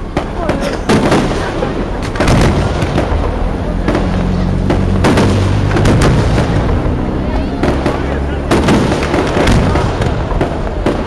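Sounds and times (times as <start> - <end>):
continuous low rumble: 0.0 - 11.0
firework bangs: 0.0 - 11.0.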